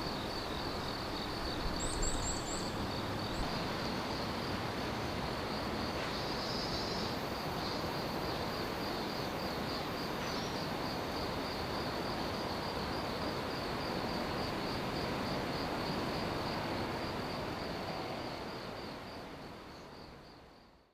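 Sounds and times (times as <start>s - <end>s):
crickets trilling: 0.0s - 20.8s.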